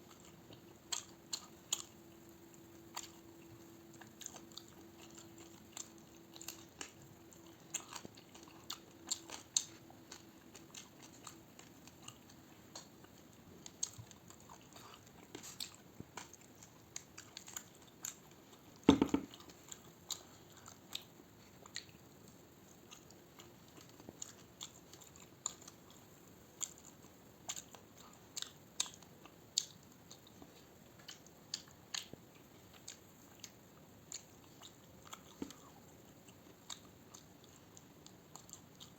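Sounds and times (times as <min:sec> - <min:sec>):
person chewing food: 0:00.1 - 0:38.9.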